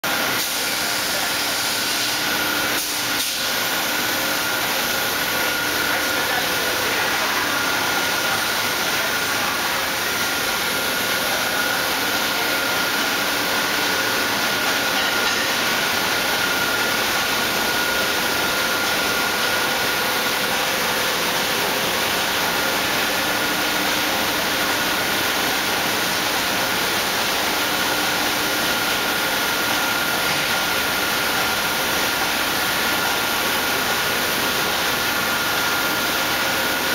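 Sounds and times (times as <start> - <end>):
high-pitched machine whine: 0.1 - 36.9.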